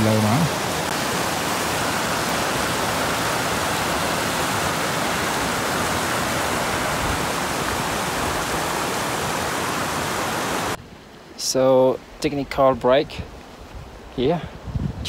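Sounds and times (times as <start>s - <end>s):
stream rushing over rocks: 0.0s - 14.3s.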